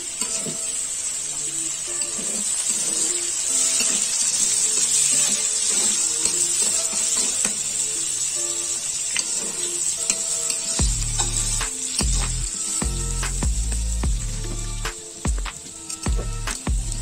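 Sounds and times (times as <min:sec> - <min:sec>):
background music: 0:00.0 - 0:17.0
onions sizzling in hot oil: 0:00.0 - 0:17.0.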